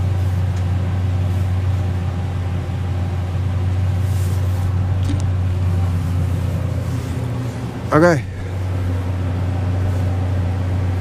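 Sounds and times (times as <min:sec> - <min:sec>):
pickup truck engine idling: 0:00.0 - 0:11.0.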